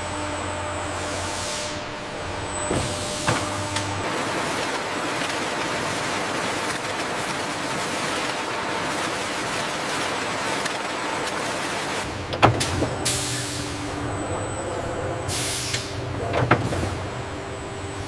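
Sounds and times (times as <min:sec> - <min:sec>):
factory machinery hissing: 0:00.0 - 0:18.0.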